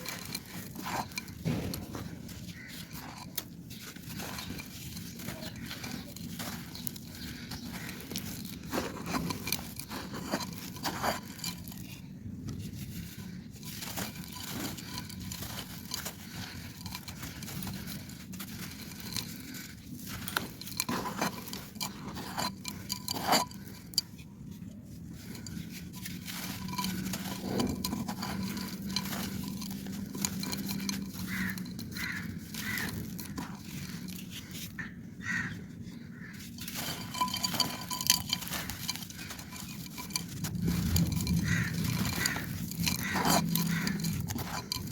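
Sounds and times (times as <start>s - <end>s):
clay pot crumbling and crunching: 0.0s - 44.9s.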